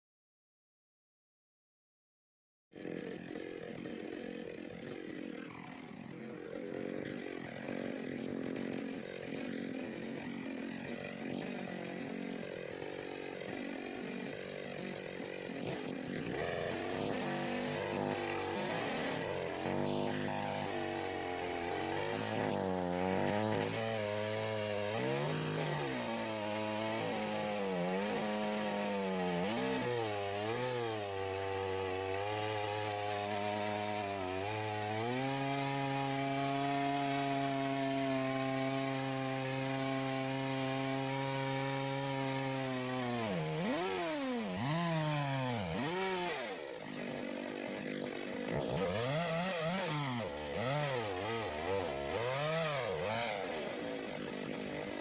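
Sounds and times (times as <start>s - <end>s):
chainsaw cutting a log: 2.7s - 55.0s.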